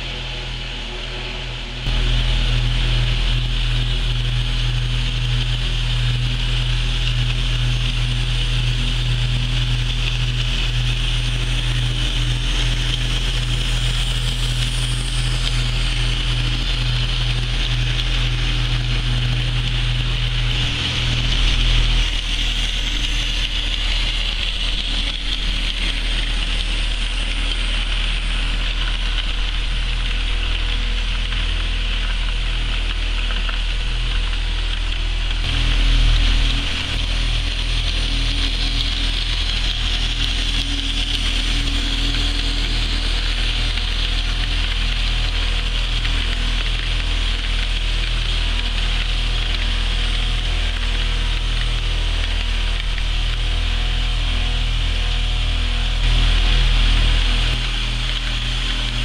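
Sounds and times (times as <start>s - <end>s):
model train motor hum: 1.9s - 59.0s.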